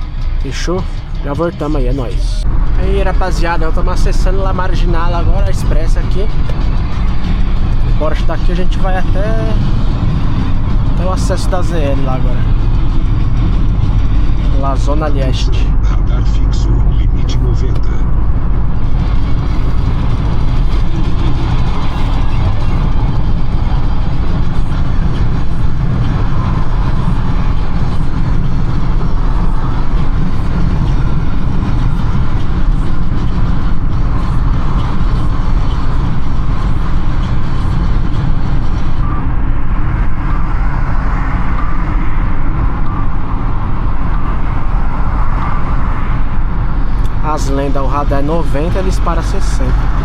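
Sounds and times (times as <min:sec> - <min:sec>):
car engine noise: 0:00.0 - 0:50.0
road and tyre rumble: 0:00.0 - 0:50.0.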